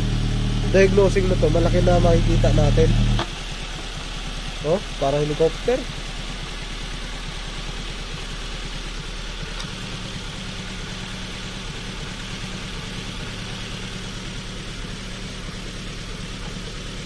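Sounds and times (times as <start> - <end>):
car engine idling roughly: 0.0 - 17.0.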